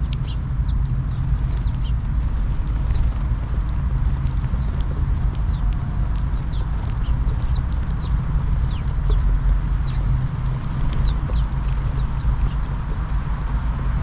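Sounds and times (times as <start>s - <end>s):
sparrows chirping: 0.0s - 3.6s, 4.2s - 12.9s
steady low rumble: 0.0s - 14.0s.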